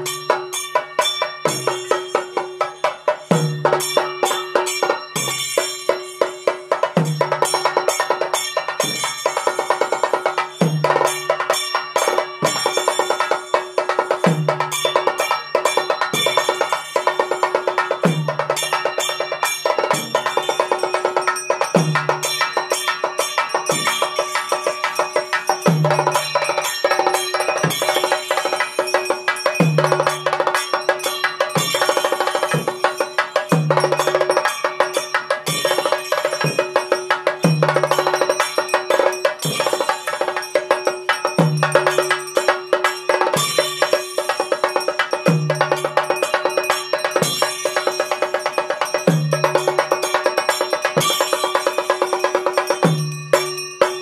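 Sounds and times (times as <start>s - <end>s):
metallic strikes and bells: 0.0s - 54.0s
steady ringing tone: 0.0s - 54.0s.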